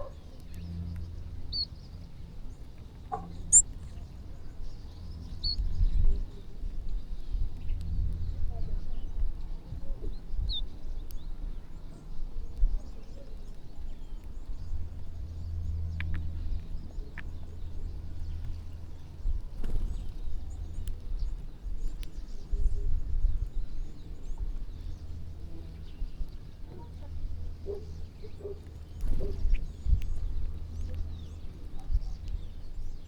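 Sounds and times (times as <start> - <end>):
small birds chirping: 0.0 - 33.0
uneven low rumble: 0.2 - 33.0.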